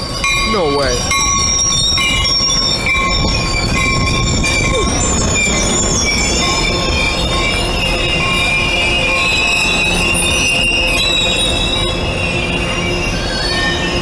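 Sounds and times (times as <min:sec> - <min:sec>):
high wheel squealing: 0:00.0 - 0:14.0
train wheels rumbling on rail: 0:00.0 - 0:14.0.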